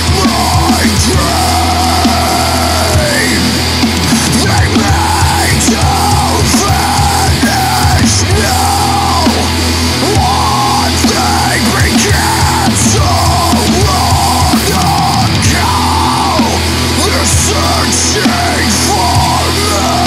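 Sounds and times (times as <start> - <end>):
thrash metal band playing: 0.0 - 20.0.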